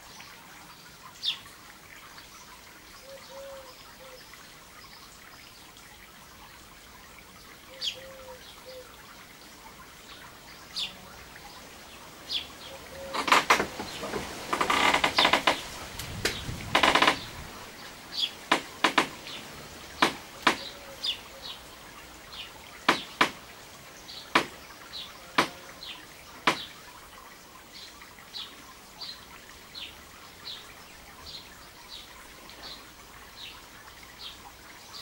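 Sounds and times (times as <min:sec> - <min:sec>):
small songbirds chirping: 0:00.0 - 0:35.0.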